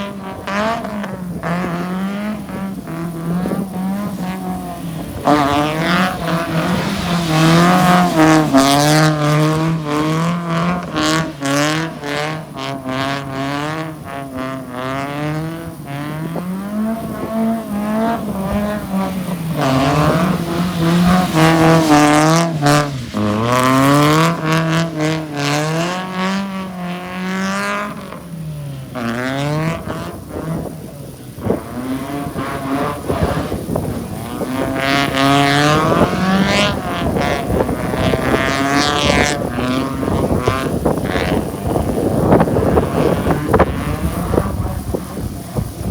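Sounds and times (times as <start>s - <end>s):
car engine revving hard: 0.0s - 45.9s.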